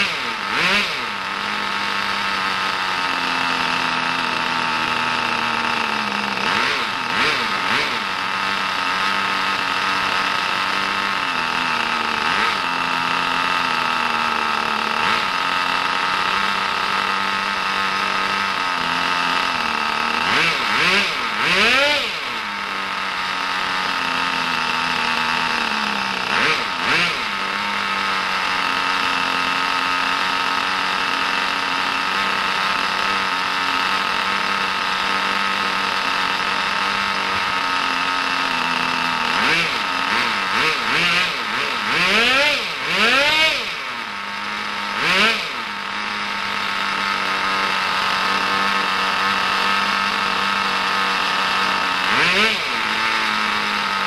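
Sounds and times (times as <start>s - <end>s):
model car engine idling and revving: 0.0s - 54.0s.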